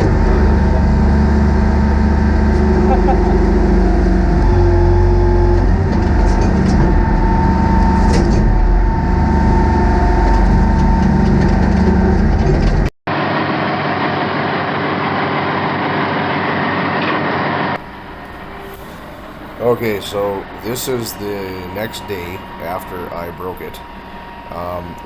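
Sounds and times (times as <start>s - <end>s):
excavator diesel engine running: 0.0s - 16.8s, 17.4s - 25.0s.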